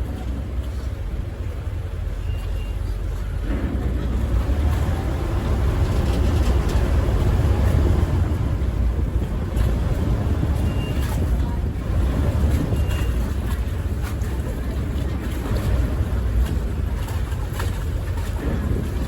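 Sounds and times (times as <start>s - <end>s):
boat engine rumble: 0.0s - 19.0s
wind buffeting microphone: 2.9s - 19.0s.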